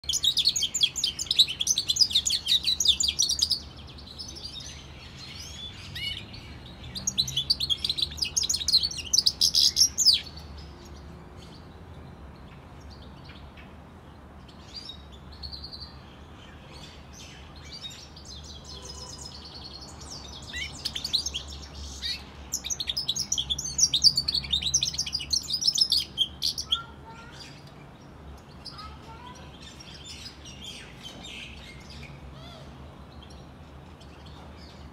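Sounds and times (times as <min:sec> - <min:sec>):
finch singing high twittering song: 0:00.0 - 0:11.8, 0:14.4 - 0:34.9.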